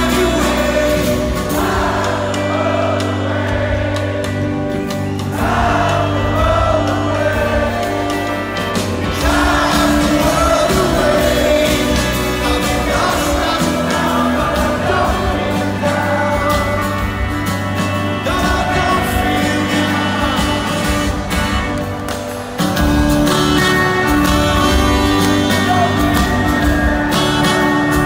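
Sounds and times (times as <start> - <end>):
live band with singing: 0.0 - 28.0.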